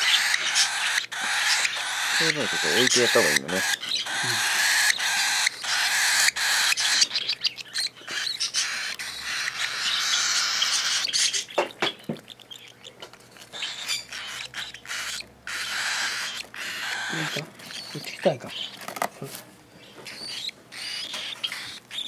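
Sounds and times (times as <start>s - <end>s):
chicks hissing begging calls: 0.0s - 18.8s, 19.7s - 22.0s.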